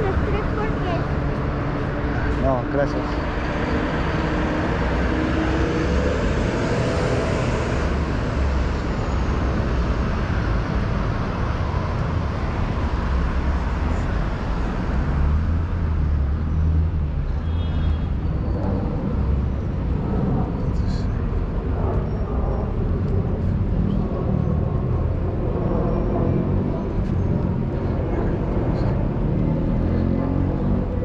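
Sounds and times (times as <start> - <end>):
city traffic passing: 0.0 - 31.0.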